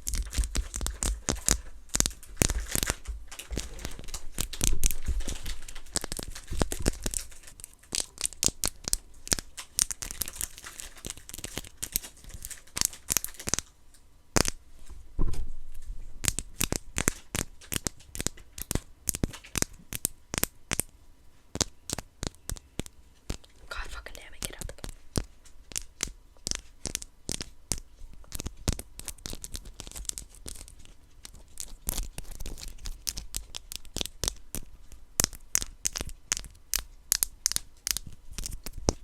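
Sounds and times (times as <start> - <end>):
plastic packaging crinkling and tearing: 0.0 - 13.7, 15.7 - 20.9, 21.6 - 39.0.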